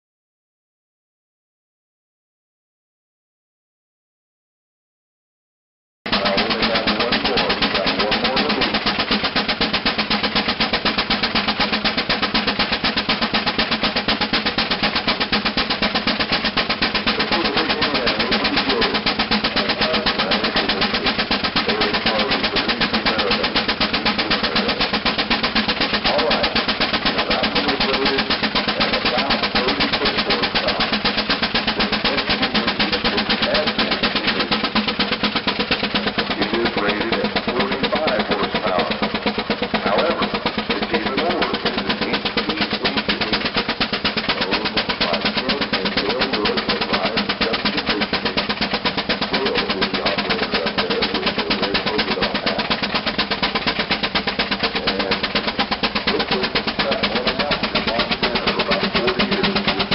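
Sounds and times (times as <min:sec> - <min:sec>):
steam engine exhaust chuffing: 0:06.1 - 0:59.9.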